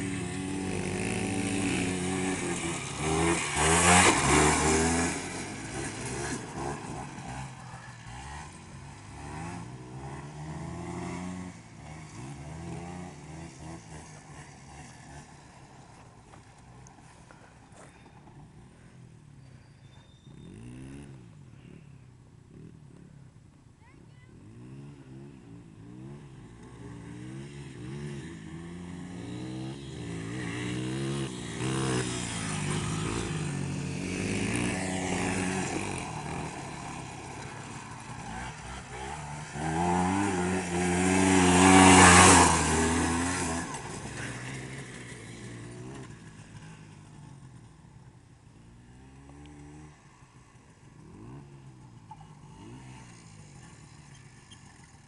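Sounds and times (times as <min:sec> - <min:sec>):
atv engine revving: 0:00.0 - 0:23.4, 0:24.3 - 0:55.0.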